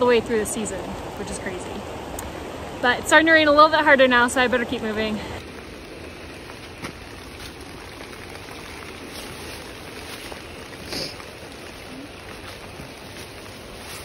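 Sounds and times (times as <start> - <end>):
rain on leaves: 0.0 - 14.0.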